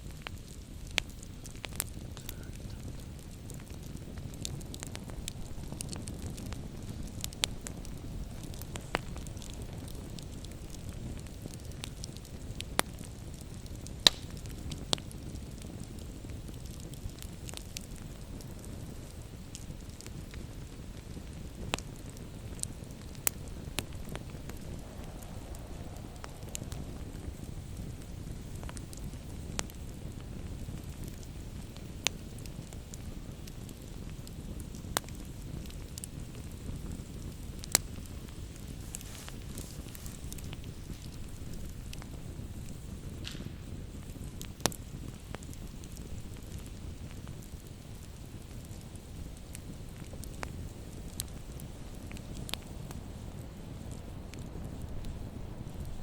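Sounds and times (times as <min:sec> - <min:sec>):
campfire crackling: 0:00.0 - 0:56.0
sharp fire pops: 0:00.0 - 0:56.0.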